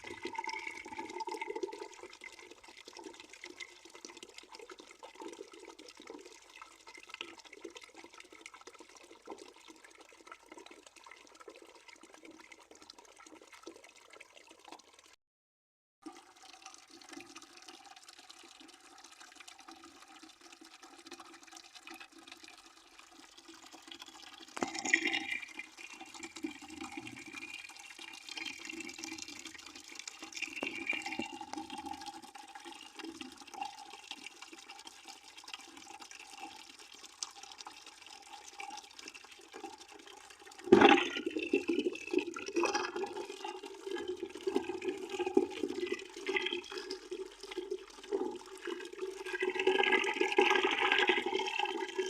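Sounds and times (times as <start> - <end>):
water running into a bucket: 0.0 - 15.2, 16.0 - 52.0.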